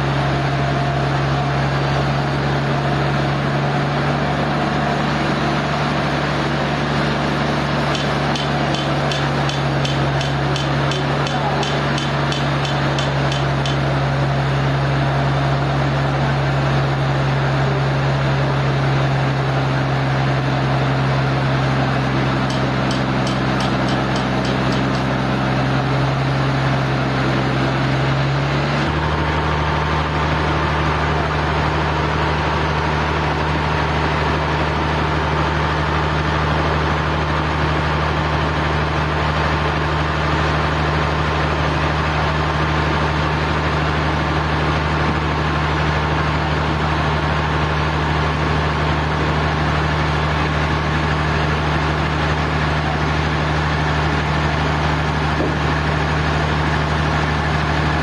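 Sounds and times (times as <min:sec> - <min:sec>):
sawmill machinery drone: 0:00.0 - 0:58.0.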